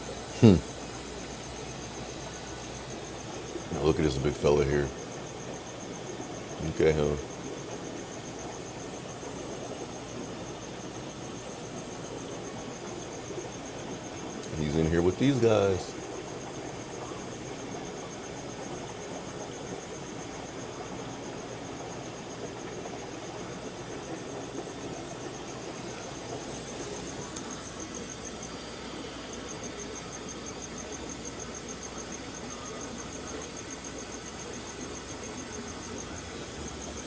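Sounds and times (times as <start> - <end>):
cricket chirping trill: 0.0 - 37.0
steady hiss: 0.0 - 37.0.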